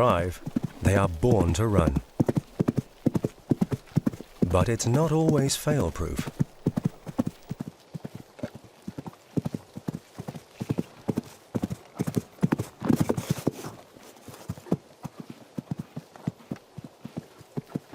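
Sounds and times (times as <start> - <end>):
horses galloping: 0.0 - 17.9.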